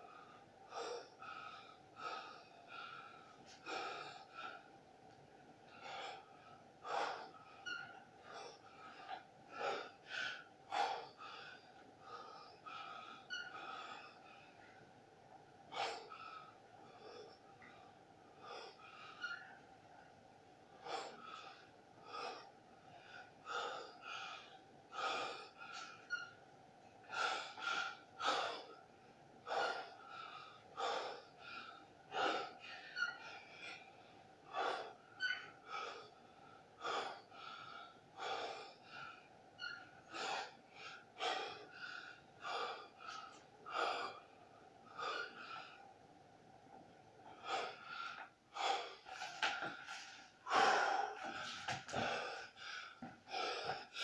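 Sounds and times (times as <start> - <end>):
man breathing hard: 0.0 - 4.9, 5.7 - 14.8, 20.7 - 26.2, 27.0 - 46.0, 47.2 - 54.0
faint steady hum: 0.0 - 54.0.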